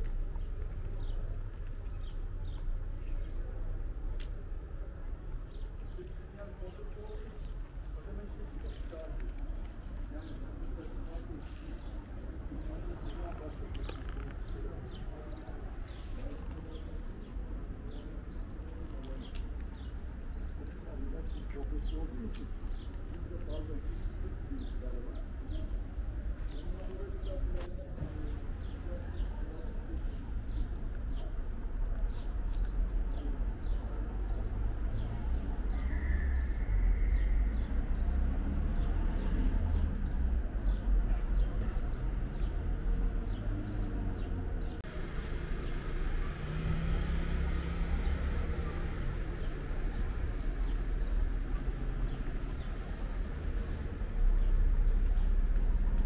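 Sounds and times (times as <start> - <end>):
low outdoor rumble: 0.0 - 56.0
small birds chirping: 0.0 - 56.0.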